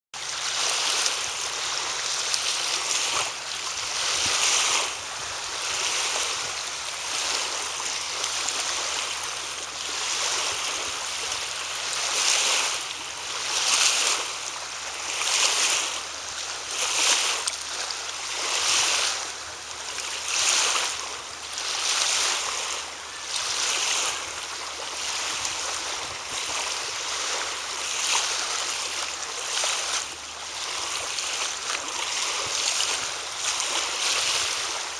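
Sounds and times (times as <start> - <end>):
small waves washing on shore: 0.2 - 34.9.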